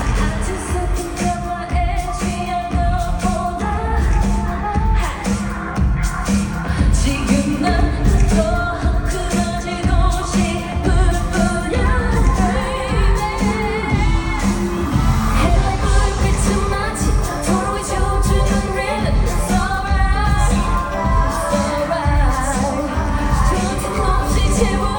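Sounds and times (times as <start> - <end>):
backing track with heavy beat: 0.0 - 24.9
woman singing: 0.0 - 24.9.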